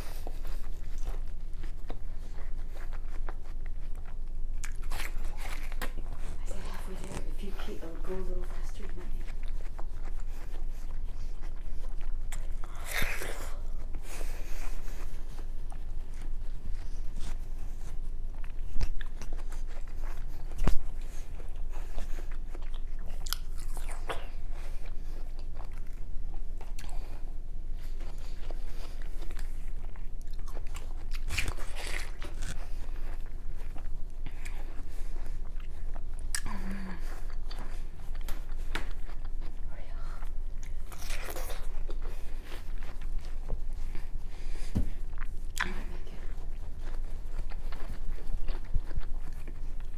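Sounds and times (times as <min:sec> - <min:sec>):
watermelon being bitten and chewed: 0:00.0 - 0:49.9.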